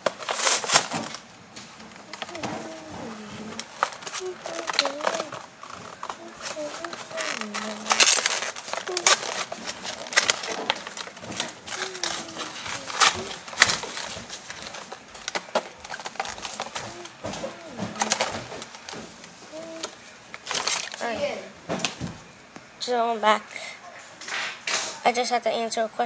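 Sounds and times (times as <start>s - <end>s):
toy packaging clicks and rustling: 0.0s - 1.3s, 1.9s - 22.0s.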